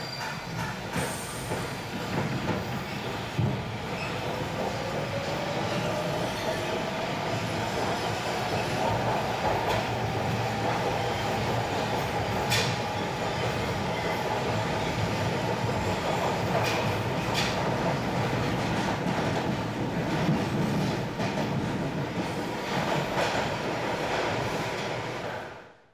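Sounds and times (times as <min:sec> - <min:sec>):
subway train rumbling: 0:00.0 - 0:25.9.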